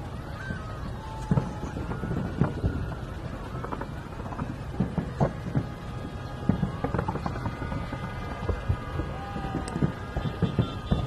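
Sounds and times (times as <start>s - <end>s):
background rumble: 0.0s - 11.0s
fireworks thuds and pops: 1.0s - 11.0s.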